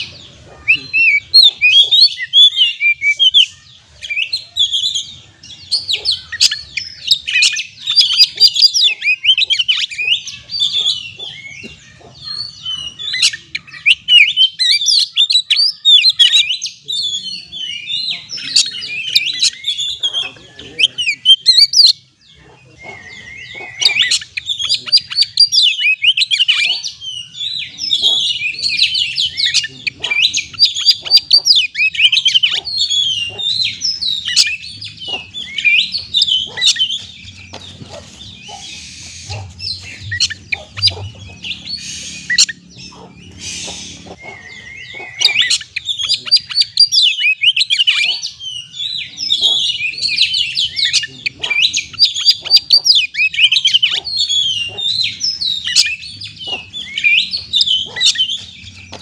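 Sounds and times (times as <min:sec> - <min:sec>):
bird singing chirps and whistles: 0:00.0 - 0:11.7, 0:12.3 - 0:22.0, 0:22.7 - 0:59.0.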